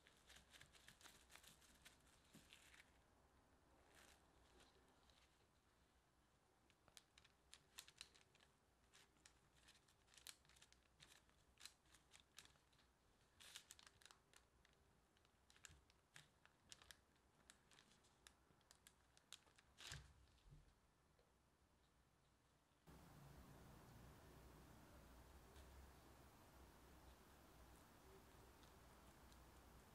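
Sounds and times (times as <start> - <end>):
crinkling and soft clicks: 0.0 - 3.1, 3.8 - 6.0, 6.6 - 29.9.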